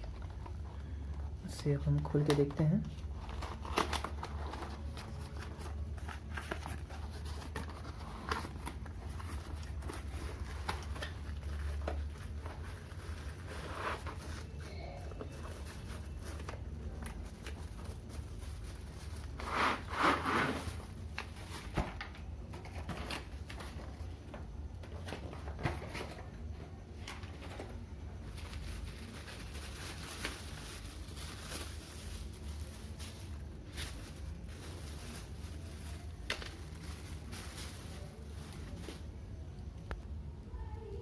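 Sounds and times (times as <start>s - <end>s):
packaging rustling and clicks: 1.9s - 39.2s.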